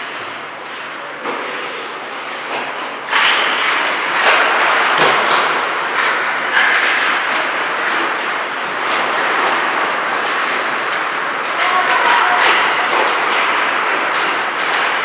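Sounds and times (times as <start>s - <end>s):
skates scraping ice: 0.0s - 15.0s
sticks and puck knocking: 2.6s - 15.0s.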